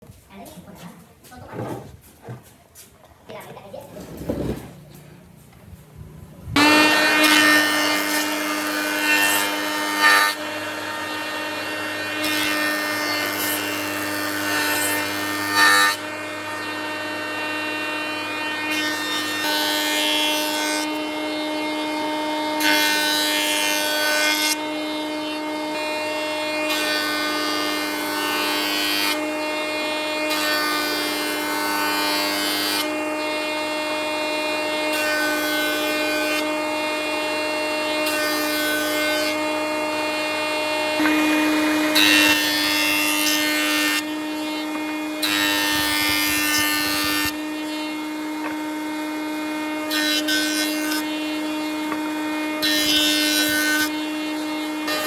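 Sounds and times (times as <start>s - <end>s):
wood cutting or sanding noise: 3.6s - 55.0s
power tool motor whine: 4.3s - 23.5s, 24.6s - 55.0s.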